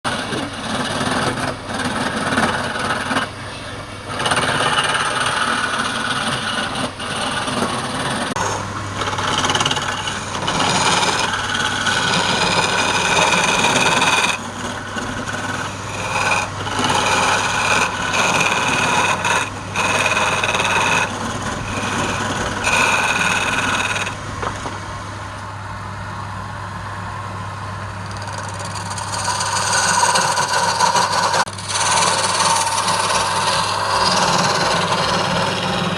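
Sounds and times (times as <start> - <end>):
turning tool scraping spinning wood: 0.1 - 24.9, 28.0 - 35.9
motor hum: 0.1 - 35.9.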